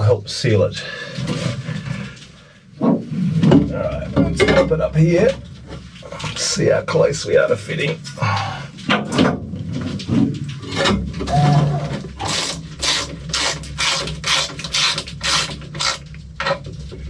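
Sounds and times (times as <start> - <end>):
pipe scraping and rubbing: 0.5 - 8.0, 8.9 - 17.0.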